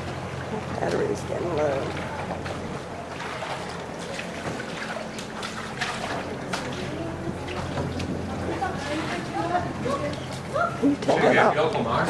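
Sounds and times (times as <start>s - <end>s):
steady low hum: 0.0s - 12.0s
water splashing and trickling: 0.0s - 12.0s.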